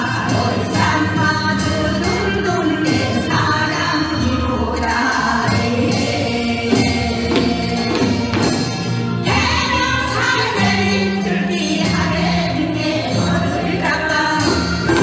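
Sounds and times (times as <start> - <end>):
group of voices singing: 0.0 - 15.0
percussion: 0.0 - 15.0.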